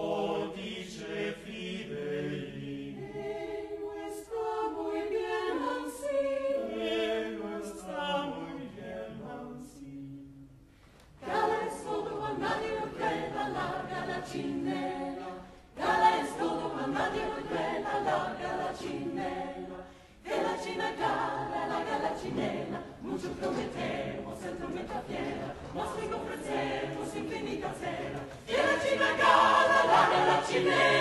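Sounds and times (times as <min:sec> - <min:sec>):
mixed choir singing a cappella: 0:00.0 - 0:31.0.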